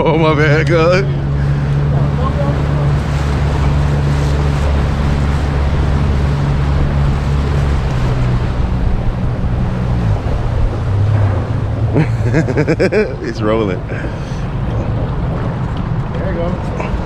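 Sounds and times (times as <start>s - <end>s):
boat motor humming: 0.0s - 17.0s
water noise: 0.0s - 17.0s
wind buffeting microphone: 0.0s - 17.0s.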